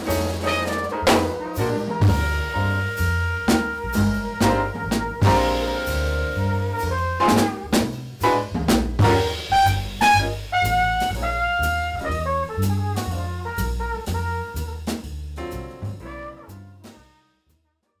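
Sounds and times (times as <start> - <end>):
brass horn melody: 0.0 - 15.0, 15.8 - 17.4
drums: 0.0 - 17.2
bass: 0.0 - 18.0.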